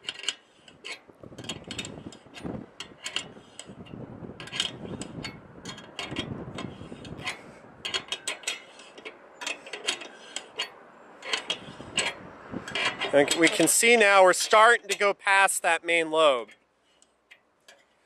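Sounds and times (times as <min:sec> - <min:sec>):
mechanical clicking and scraping: 0:00.0 - 0:15.2, 0:16.4 - 0:18.0.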